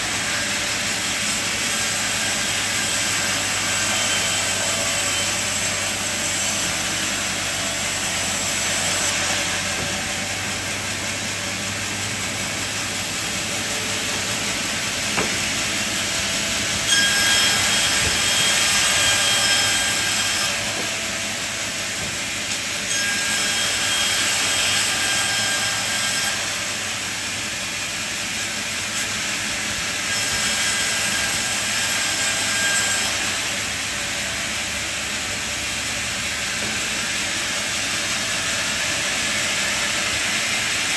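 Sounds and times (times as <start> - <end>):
faint saw whine: 0.0 - 40.9
saw hissing through timber: 0.0 - 40.9.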